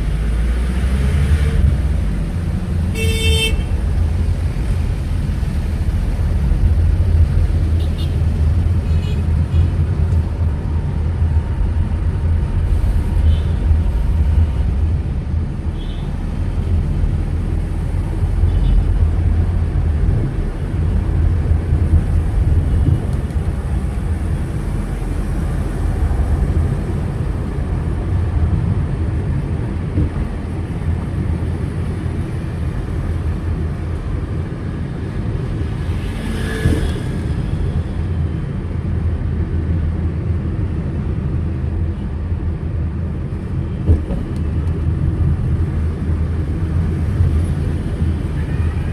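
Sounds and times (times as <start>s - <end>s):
car driving in traffic: 0.0s - 48.9s.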